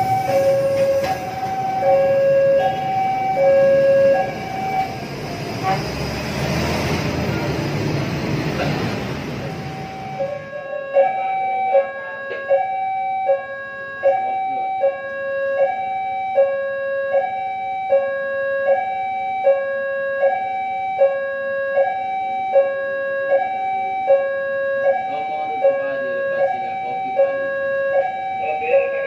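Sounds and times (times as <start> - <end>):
level crossing two-tone alarm: 0.0 - 5.8, 9.1 - 29.0.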